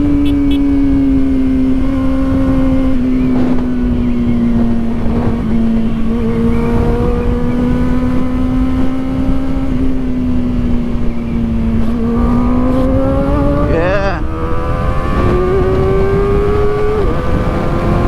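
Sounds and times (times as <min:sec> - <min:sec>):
constant rushing noise: 0:00.0 - 0:18.0
motorcycle engine at high revs: 0:00.0 - 0:18.0.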